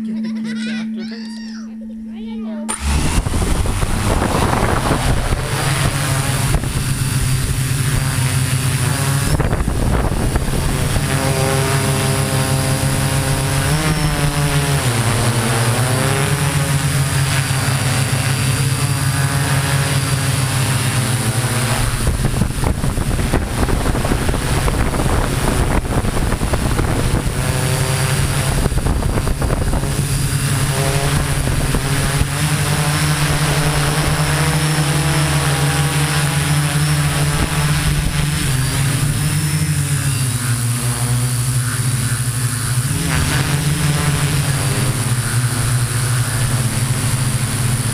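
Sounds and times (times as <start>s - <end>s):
drone propellers buzzing: 0.0s - 47.9s.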